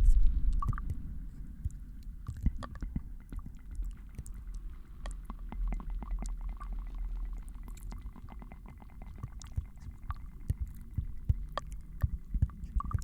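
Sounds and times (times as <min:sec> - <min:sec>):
soft low rumble: 0:00.0 - 0:13.0
small clicks and taps: 0:01.6 - 0:06.8, 0:07.4 - 0:13.0.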